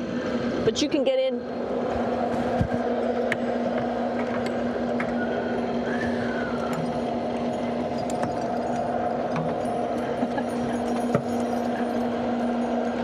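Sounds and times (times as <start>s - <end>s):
ventilation fans humming: 0.0s - 13.0s.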